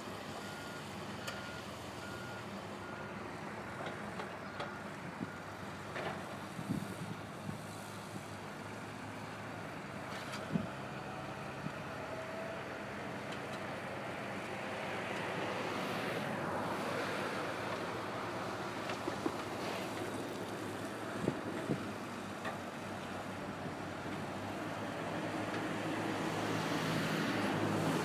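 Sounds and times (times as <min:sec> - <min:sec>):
construction machinery engine drone: 0:00.0 - 0:28.0.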